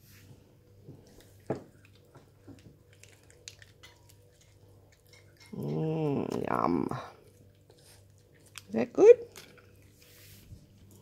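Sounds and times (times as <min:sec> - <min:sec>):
dog licking and chewing: 0:01.0 - 0:11.0.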